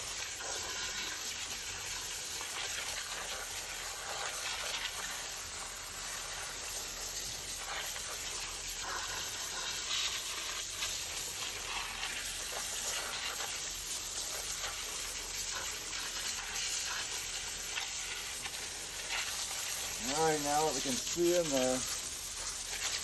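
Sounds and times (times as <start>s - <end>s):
water spray hissing on machinery: 0.0s - 23.0s.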